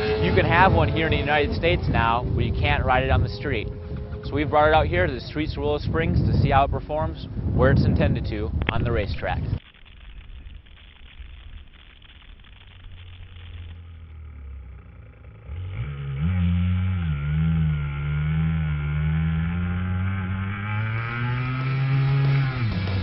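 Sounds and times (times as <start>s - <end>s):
motorcycle engine accelerating: 0.0s - 7.7s, 8.9s - 23.0s.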